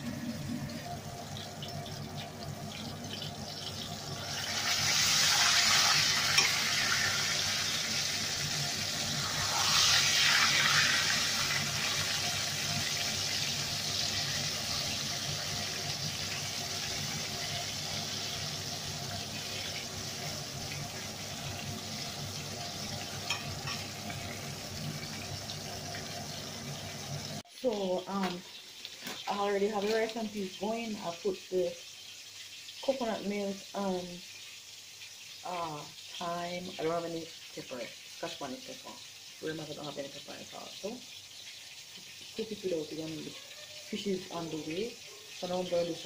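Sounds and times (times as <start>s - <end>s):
fish sizzling in hot oil: 0.0s - 46.0s.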